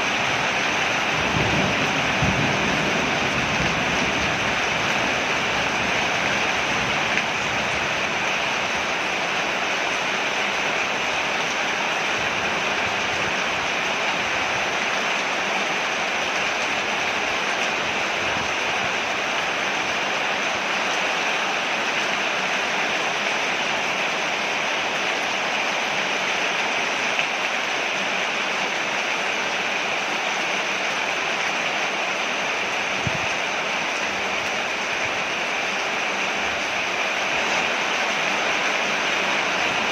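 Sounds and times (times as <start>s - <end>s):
rain falling on a porch: 0.0s - 39.9s.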